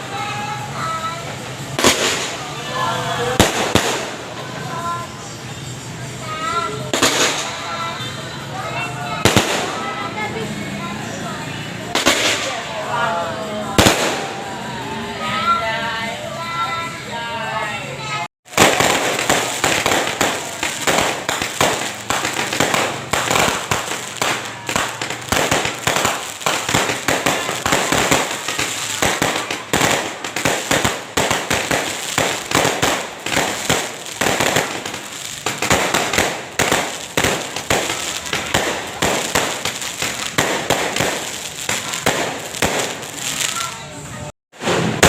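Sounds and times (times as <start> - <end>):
fireworks bangs and crackling pops: 0.0 - 5.1, 6.2 - 8.1, 8.7 - 10.2, 11.8 - 13.0, 13.7 - 14.5, 18.4 - 43.9, 44.5 - 45.0.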